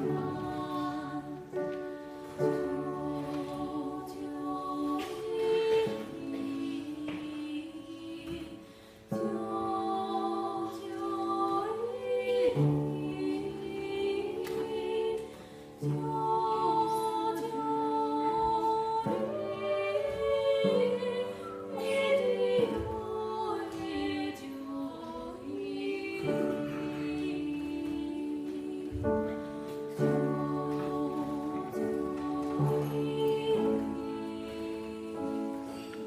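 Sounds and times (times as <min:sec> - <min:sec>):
two voices singing in harmony: 0:00.0 - 0:36.0.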